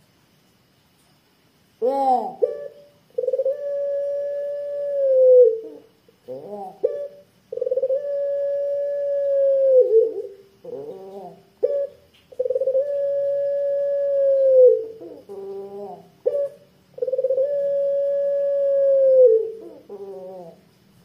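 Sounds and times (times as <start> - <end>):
dove cooing: 1.8 - 20.7.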